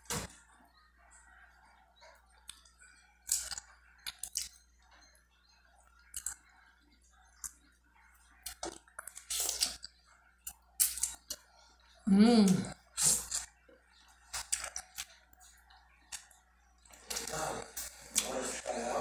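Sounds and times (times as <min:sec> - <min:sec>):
chewing: 0:00.1 - 0:12.0, 0:12.7 - 0:19.0.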